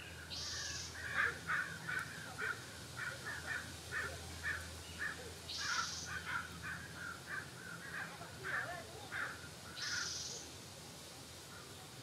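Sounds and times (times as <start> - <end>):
crows cawing: 0.4 - 10.2.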